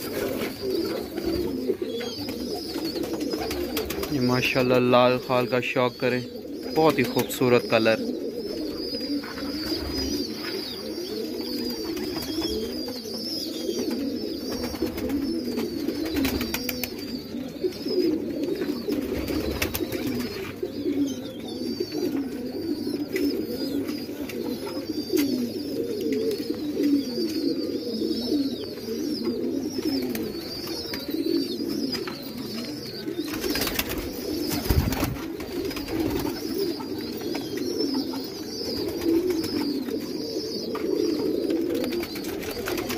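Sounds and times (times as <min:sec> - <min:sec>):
pigeons cooing: 0:00.0 - 0:42.9.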